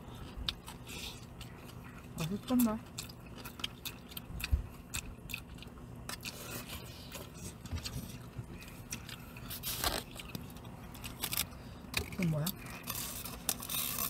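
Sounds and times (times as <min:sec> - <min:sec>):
chewing rice: 0:00.0 - 0:14.0.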